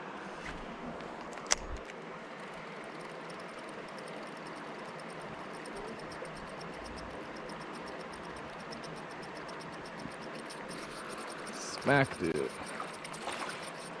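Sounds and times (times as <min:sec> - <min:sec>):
fishing reel ticking: 0:02.5 - 0:14.0.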